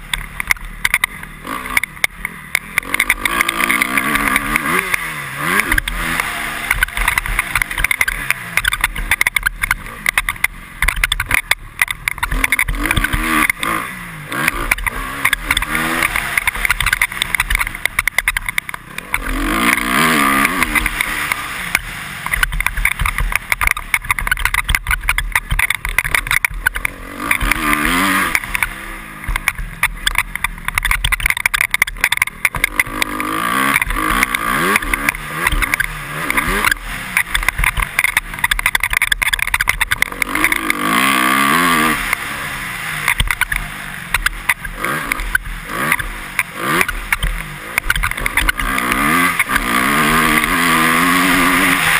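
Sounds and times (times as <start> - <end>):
motorcycle engine revving: 0.0 - 51.9
helmet visor clicks and squeaks: 5.6 - 13.7, 14.4 - 21.4, 22.2 - 41.0, 43.0 - 51.9.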